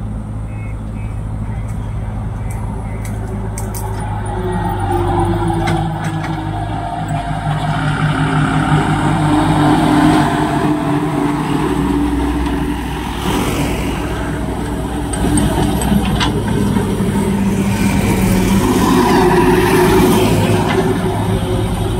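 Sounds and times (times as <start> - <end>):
backhoe loader diesel engine: 0.0 - 21.9
heavy trucks driving past: 0.0 - 21.9.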